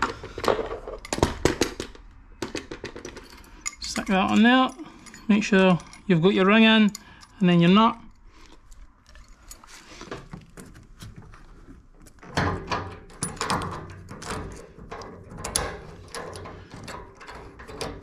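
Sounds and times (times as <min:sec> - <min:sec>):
small metallic clicks and rattles: 0:00.0 - 0:11.1, 0:12.0 - 0:18.0.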